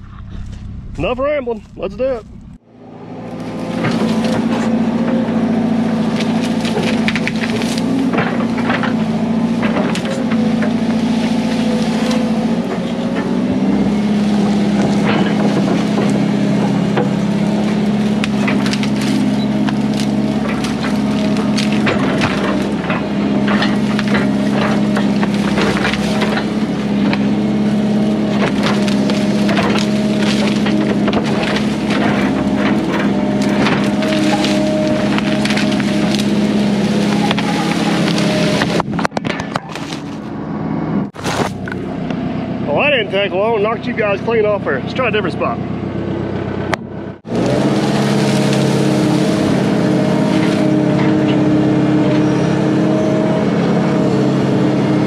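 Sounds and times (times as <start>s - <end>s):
excavator diesel engine running: 0.0s - 55.0s
branches cracking and snapping: 3.2s - 40.4s, 41.1s - 42.2s, 47.2s - 55.0s.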